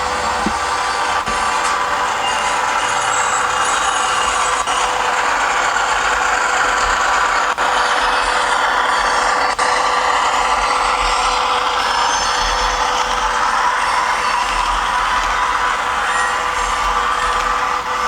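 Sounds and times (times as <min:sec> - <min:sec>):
model diesel locomotive engine sound: 0:00.0 - 0:18.0.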